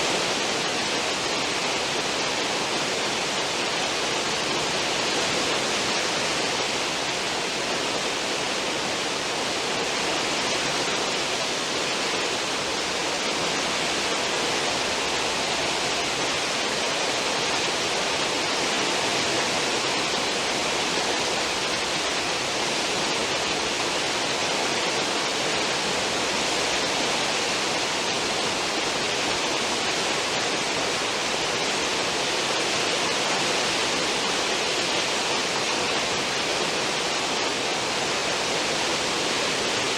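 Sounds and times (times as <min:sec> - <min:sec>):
churning water rushing: 0:00.0 - 0:39.9.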